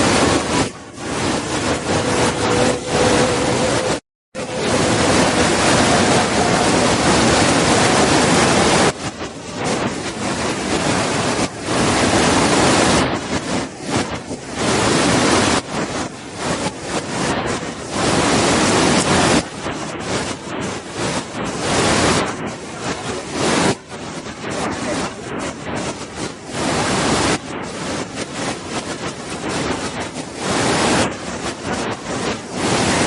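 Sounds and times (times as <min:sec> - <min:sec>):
waterfall roaring: 0:00.0 - 0:33.0.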